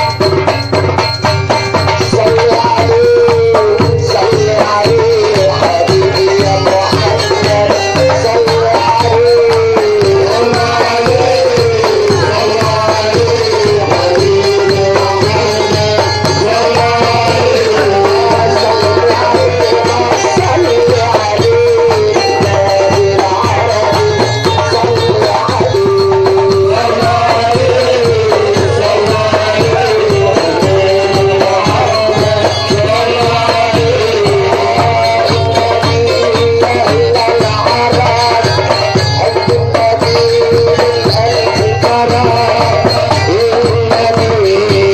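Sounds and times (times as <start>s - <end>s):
repeating drum beat: 0.0s - 44.9s.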